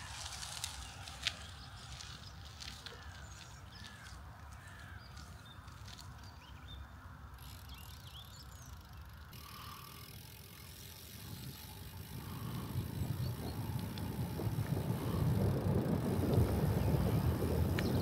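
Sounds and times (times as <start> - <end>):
bike tyres rolling on gravel: 0.0 - 18.0.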